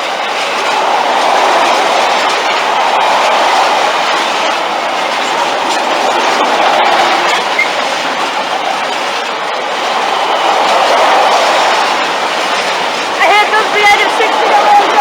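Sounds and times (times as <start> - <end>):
freight train rumbling past: 0.0 - 15.0
wheels clacking over rail joints: 0.0 - 15.0.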